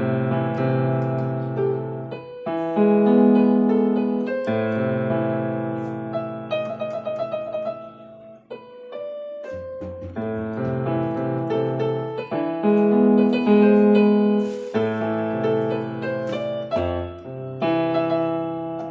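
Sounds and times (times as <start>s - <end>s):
keyboard piano slow melody: 0.0s - 18.9s.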